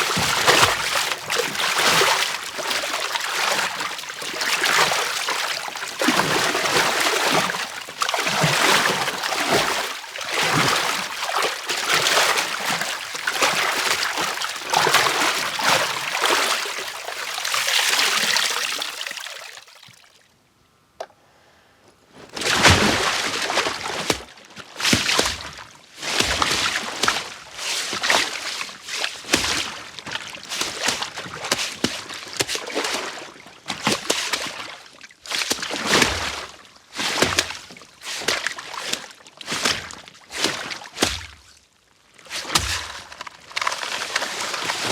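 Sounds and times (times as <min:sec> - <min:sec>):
water sloshing and splashing: 0:00.0 - 0:20.2, 0:22.3 - 0:41.6, 0:42.2 - 0:44.9.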